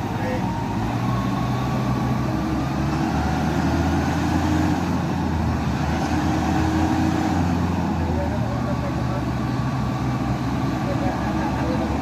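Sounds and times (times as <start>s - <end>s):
heavy vehicle engine droning: 0.0s - 12.0s.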